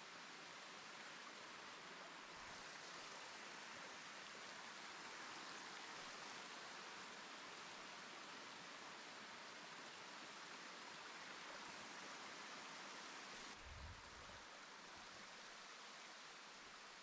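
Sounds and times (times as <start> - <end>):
stream trickling over rocks: 0.0 - 17.0.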